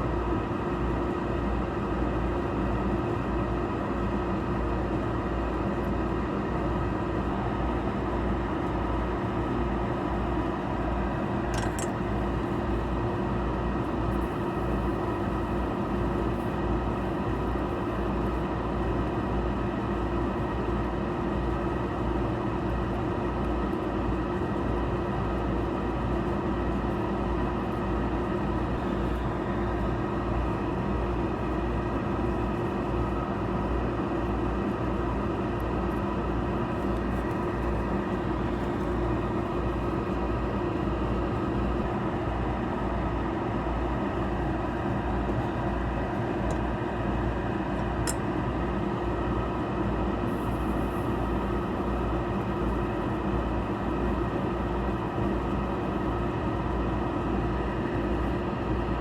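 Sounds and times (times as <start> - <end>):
blower fan running: 0.0 - 59.0.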